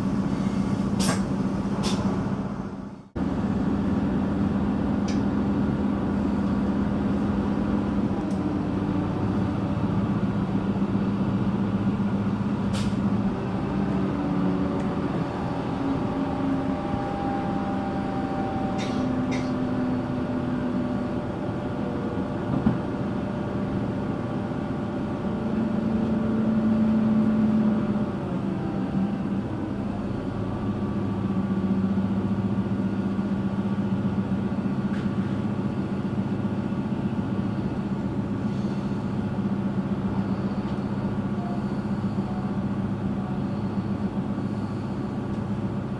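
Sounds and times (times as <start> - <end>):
train engine drone: 0.0 - 45.9
train running noise: 0.0 - 45.9.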